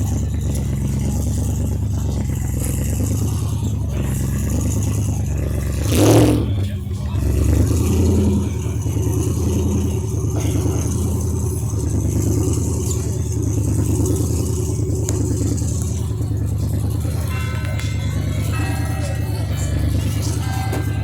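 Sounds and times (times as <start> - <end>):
car engine running steadily: 0.0 - 21.0.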